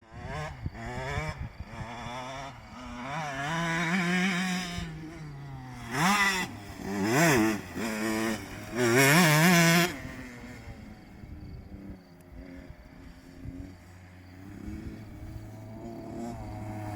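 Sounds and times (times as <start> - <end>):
motocross bike engine revving: 0.0 - 16.9.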